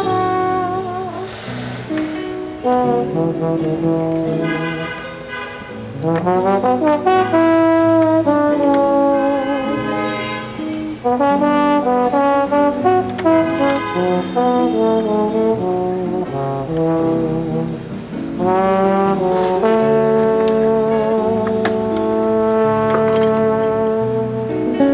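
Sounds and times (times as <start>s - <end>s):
trombones and trumpets playing: 0.0s - 24.9s.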